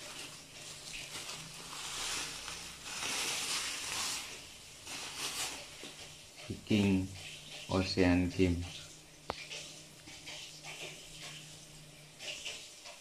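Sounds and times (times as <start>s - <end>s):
plastic wrap rustling and crinkling: 0.0s - 13.0s.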